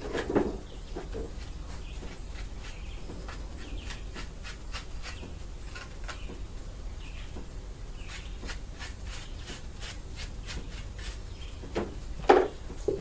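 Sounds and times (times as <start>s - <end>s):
small birds chirping: 0.3s - 12.2s.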